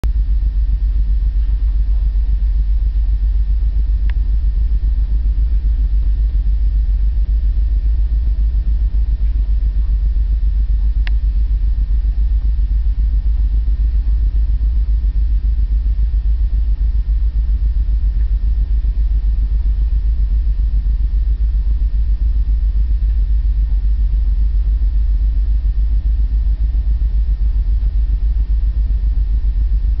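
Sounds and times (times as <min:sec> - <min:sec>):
ship deep rumble: 0:00.0 - 0:30.0.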